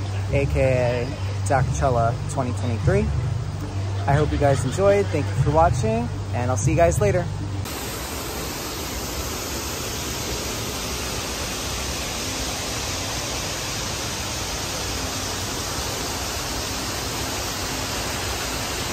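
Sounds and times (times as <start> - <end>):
steady rushing noise: 0.0 - 18.9.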